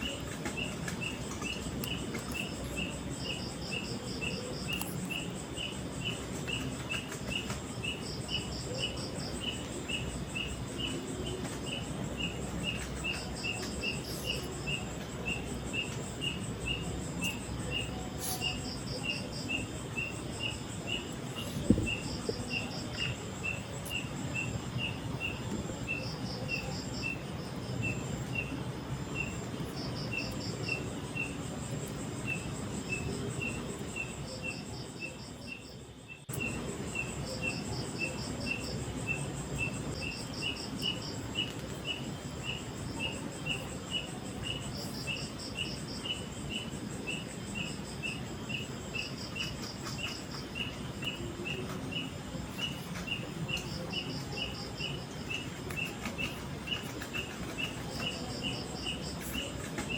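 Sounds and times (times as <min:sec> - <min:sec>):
cricket trills: 0:00.0 - 0:59.9
insect chirping: 0:00.0 - 0:59.9.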